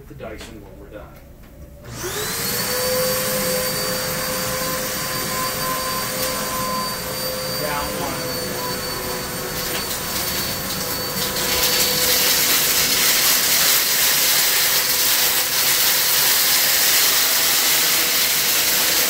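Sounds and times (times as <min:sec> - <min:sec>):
upright vacuum cleaner running: 0:01.8 - 0:19.0.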